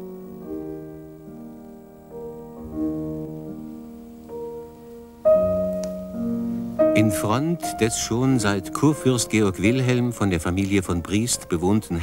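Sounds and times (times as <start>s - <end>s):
slow quiet piano melody: 0.0s - 12.0s.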